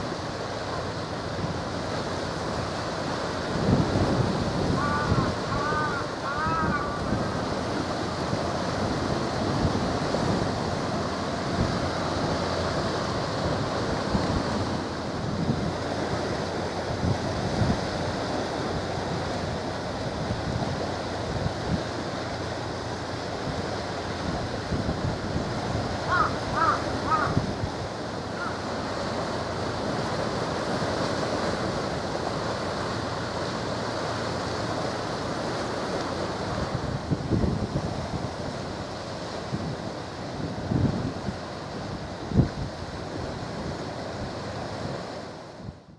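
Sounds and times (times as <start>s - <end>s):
waves washing: 0.0s - 45.9s
wind gusting across microphone: 0.0s - 45.9s.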